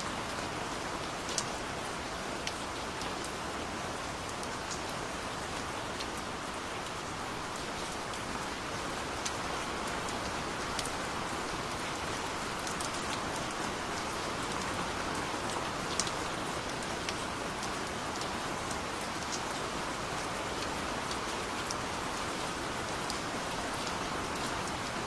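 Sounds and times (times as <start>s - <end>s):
gentle rain falling: 0.0s - 25.0s
rain drops ticking: 0.0s - 25.0s.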